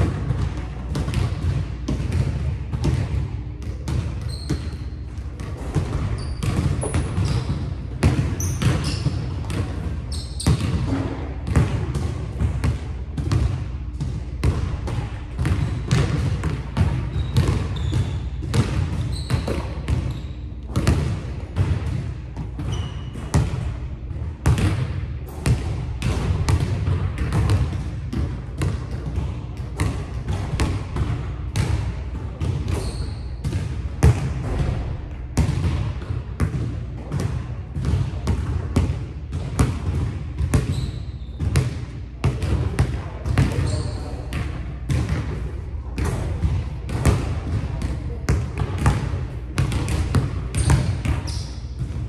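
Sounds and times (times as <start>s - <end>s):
basketball bouncing on wooden floor: 0.0s - 45.4s, 46.0s - 52.0s
sneakers squeaking: 0.1s - 24.7s, 28.6s - 34.7s, 39.3s - 52.0s.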